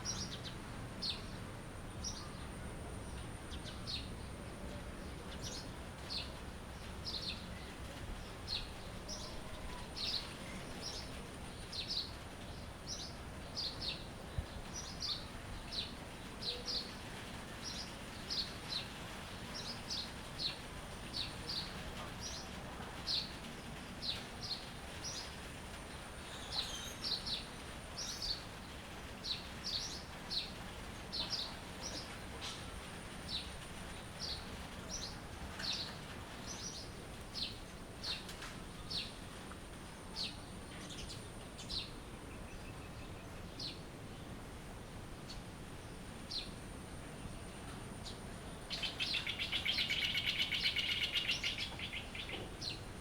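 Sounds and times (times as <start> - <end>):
songbird chirping: 0.0 - 44.5, 45.2 - 53.0.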